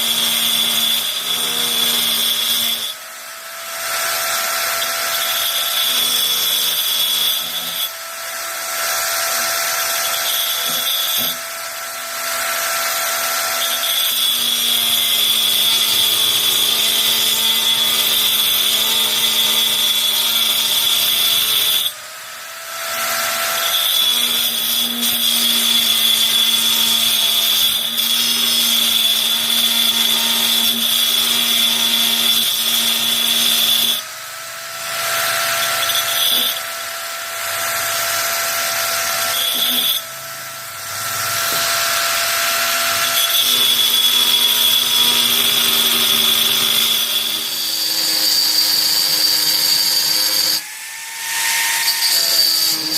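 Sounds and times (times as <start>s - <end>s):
angle grinder running: 0.0s - 52.9s.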